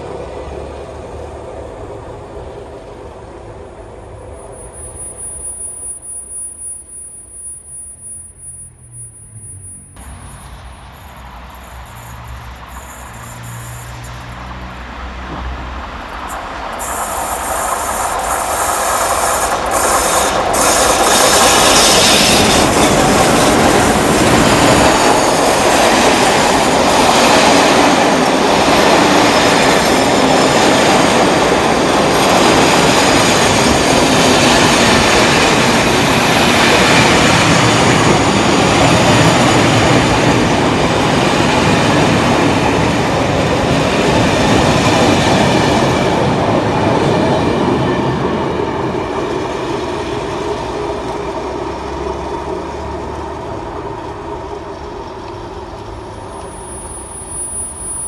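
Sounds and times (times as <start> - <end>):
train rushing past: 0.0 - 6.1, 8.8 - 58.0.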